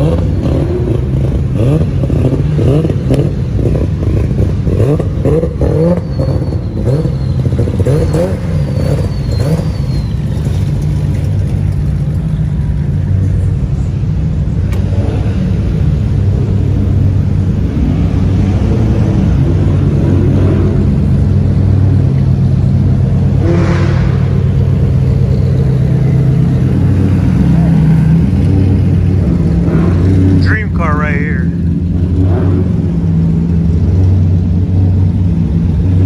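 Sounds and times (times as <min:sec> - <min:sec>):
engine revs: 0:00.0 - 0:13.0, 0:14.6 - 0:36.0
sports car engines droning: 0:00.0 - 0:36.0.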